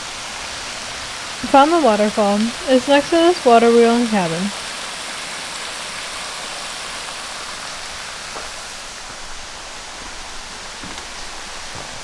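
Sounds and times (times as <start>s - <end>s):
small waterfall splashing on rocks: 0.0s - 12.0s.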